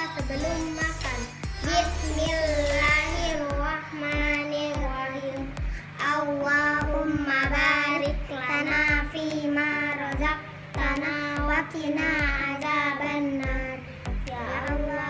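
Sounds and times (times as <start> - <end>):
backing track with steady beat: 0.0 - 15.0
child singing: 0.0 - 15.0.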